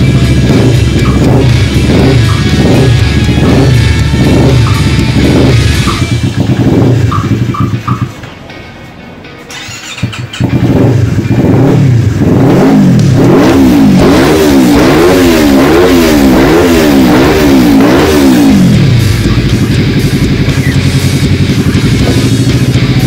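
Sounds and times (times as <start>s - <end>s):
motorcycle engine revving: 0.0s - 8.2s, 9.5s - 23.0s.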